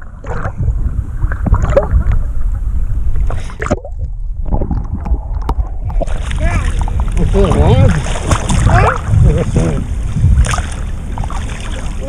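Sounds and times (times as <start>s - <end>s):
low irregular rumble: 0.0s - 12.0s
sea water sloshing and splashing: 0.0s - 12.0s
water gurgling: 0.0s - 12.0s.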